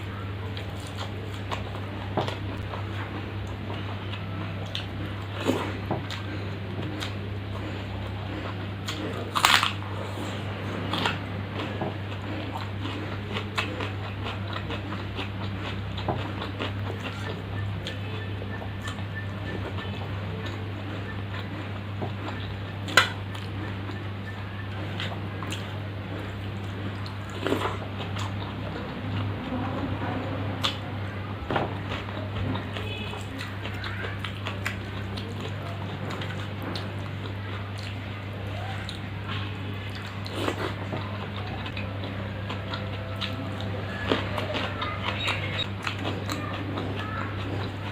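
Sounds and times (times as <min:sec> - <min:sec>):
person chewing and crunching food: 0:00.0 - 0:47.9
steady low hum: 0:00.0 - 0:47.9.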